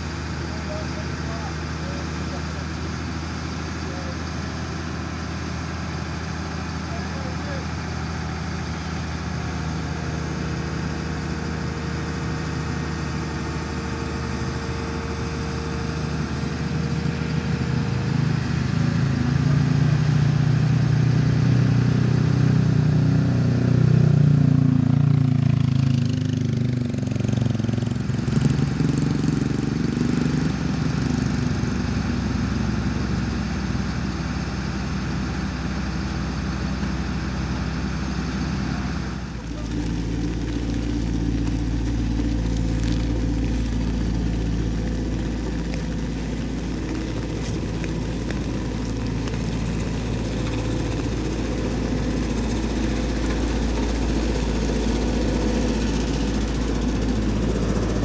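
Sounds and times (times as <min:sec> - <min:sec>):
excavator diesel engine revving: 0:00.0 - 0:58.0.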